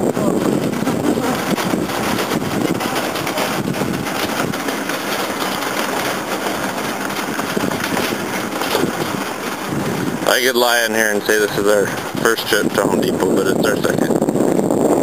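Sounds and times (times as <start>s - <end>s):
cart wheels rumbling on asphalt: 0.0s - 15.0s
metal basket rattling: 0.6s - 12.7s.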